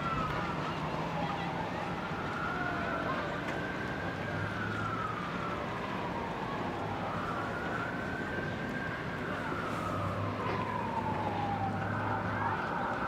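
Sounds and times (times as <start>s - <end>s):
city background noise: 0.0s - 13.0s
emergency siren wailing: 0.0s - 13.0s.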